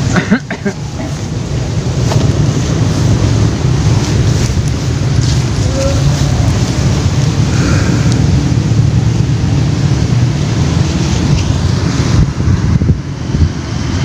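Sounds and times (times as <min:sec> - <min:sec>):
wind buffeting microphone: 0:00.7 - 0:14.0.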